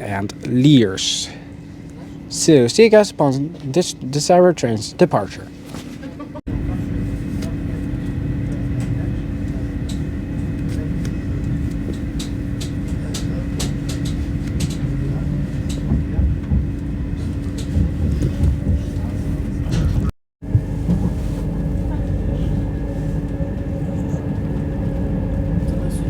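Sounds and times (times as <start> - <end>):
train hum and rumble: 0.0 - 26.0.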